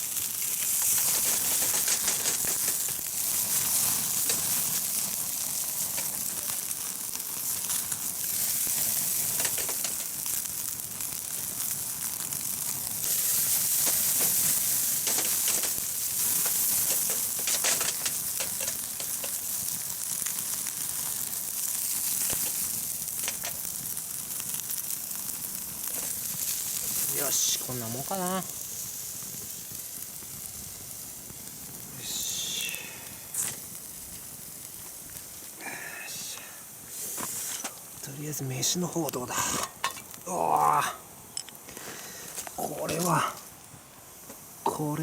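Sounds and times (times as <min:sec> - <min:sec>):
chicken sizzling on a grill: 0:00.0 - 0:45.0
wood fire crackles and pops: 0:00.0 - 0:45.0.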